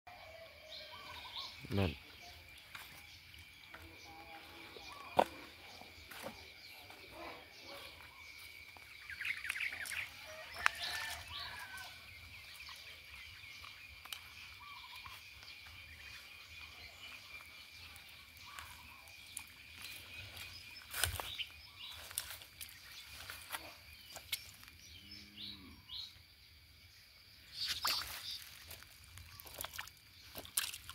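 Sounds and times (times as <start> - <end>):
birds chirping: 0.1 - 26.3
footsteps in dry grass and mud: 0.9 - 24.9, 27.6 - 30.9.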